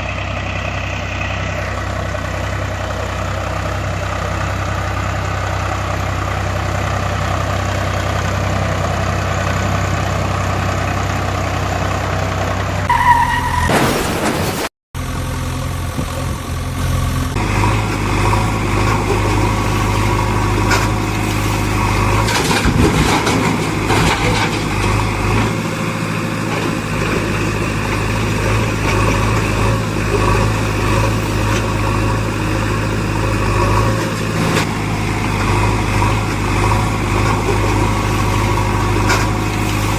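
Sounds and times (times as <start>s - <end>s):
engine running: 0.0s - 13.3s, 15.0s - 39.9s.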